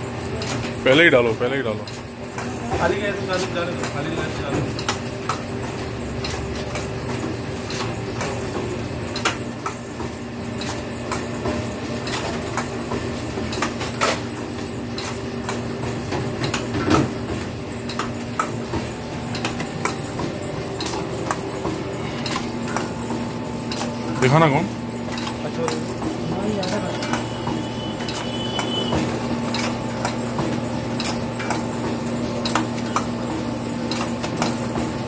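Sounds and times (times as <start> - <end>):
machine clicks and knocks: 1.7 - 24.5, 25.1 - 35.0
machine motor hum: 2.2 - 35.0.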